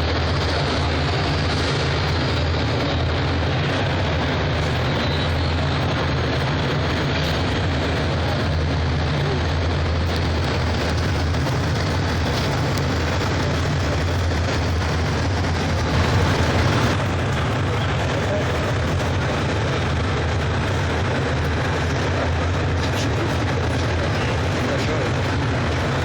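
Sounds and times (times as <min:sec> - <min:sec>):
model vehicle engine drone: 0:00.0 - 0:26.0.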